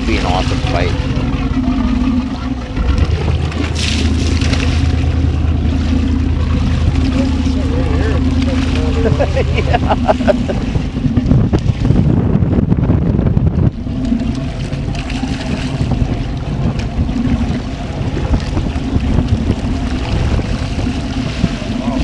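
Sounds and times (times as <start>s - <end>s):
boat engine idling: 0.0s - 22.0s
wind buffeting microphone: 0.0s - 22.0s.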